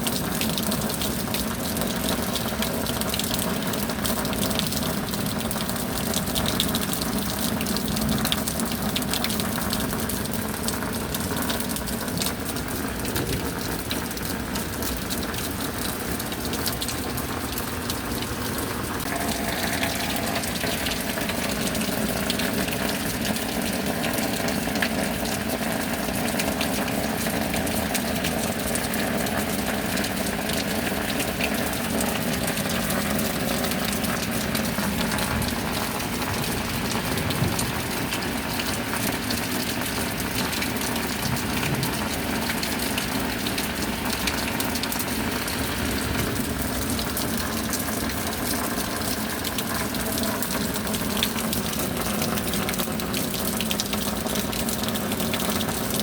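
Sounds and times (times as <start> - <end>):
steady rain: 0.0 - 56.0
water gushing and pouring: 0.0 - 56.0.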